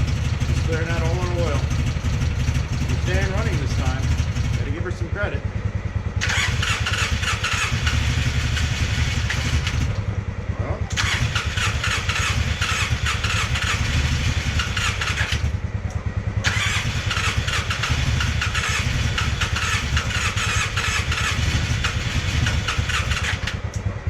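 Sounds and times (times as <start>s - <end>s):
engine cranking chug: 0.0s - 5.4s, 6.2s - 10.1s, 10.8s - 15.6s, 16.4s - 23.9s.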